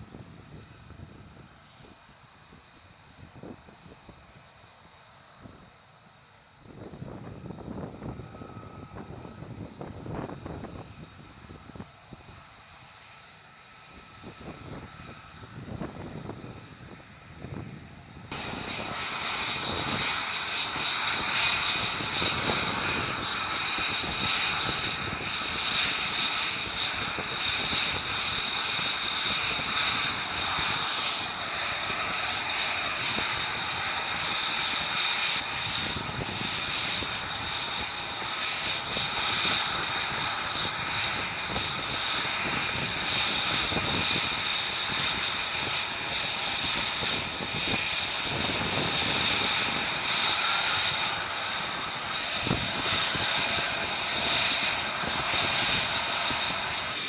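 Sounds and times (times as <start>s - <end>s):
jet engine roaring with whine: 0.0s - 57.0s.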